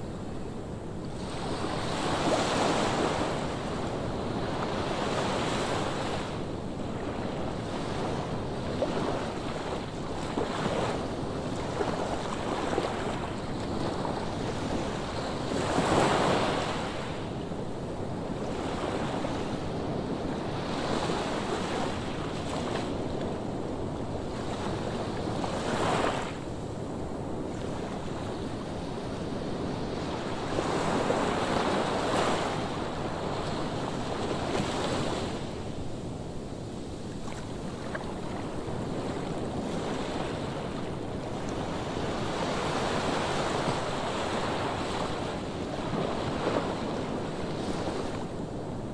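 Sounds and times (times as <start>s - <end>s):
wind noise on microphone: 0.0s - 48.9s.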